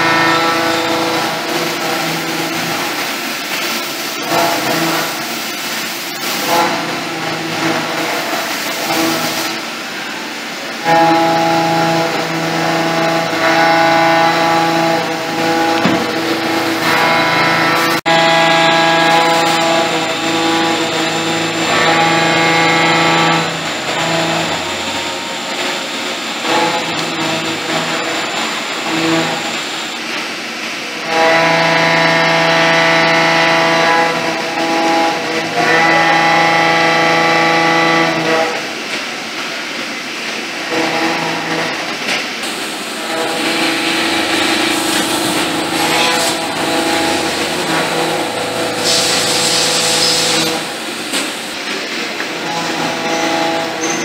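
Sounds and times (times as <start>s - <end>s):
milling machine hum: 0.0s - 54.0s.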